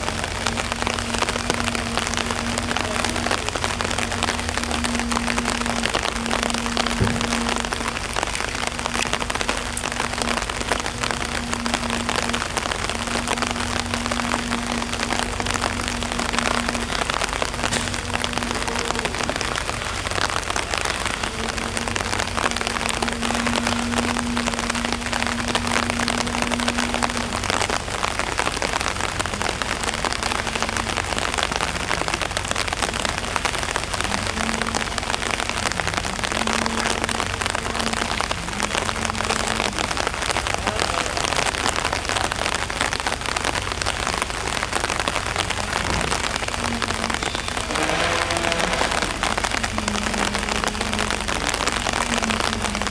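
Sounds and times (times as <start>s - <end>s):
rain falling on concrete: 0.0s - 52.9s
steady hum: 0.0s - 52.9s.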